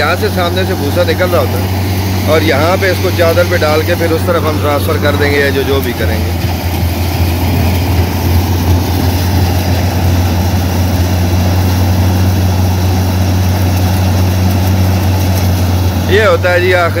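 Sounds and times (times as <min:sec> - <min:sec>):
constant rushing noise: 0:00.0 - 0:17.0
thresher machine droning: 0:00.0 - 0:17.0.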